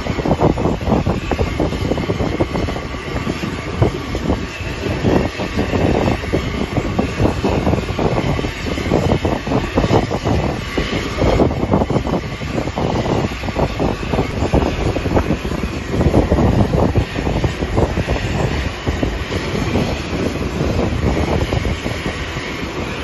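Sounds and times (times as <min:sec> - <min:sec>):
aircraft engine running: 0:00.0 - 0:23.0.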